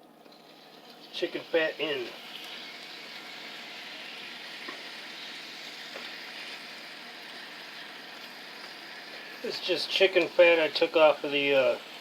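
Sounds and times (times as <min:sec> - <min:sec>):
chicken fat sizzling in oil: 0:00.2 - 0:12.0.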